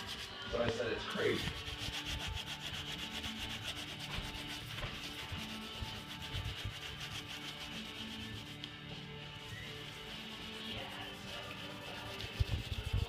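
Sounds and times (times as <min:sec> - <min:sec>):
sponge scrubbing oven surface: 0:00.0 - 0:13.0.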